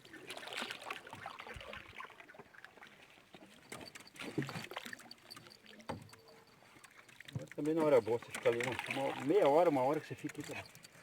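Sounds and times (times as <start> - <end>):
water lapping: 0.0 - 11.0.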